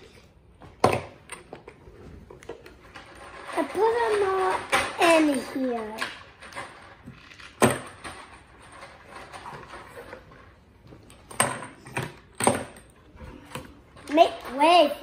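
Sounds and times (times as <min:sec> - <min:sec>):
plastic toys clicking and knocking: 0:00.7 - 0:15.0.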